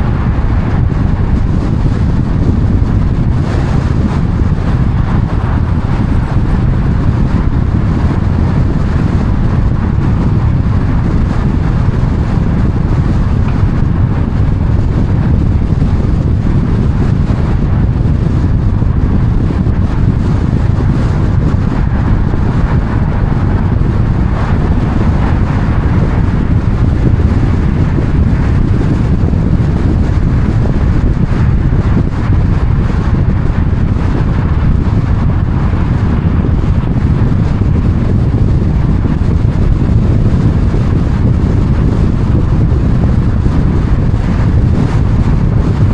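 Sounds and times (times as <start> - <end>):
car driving rumble: 0.0 - 45.6
wind noise: 0.0 - 45.9.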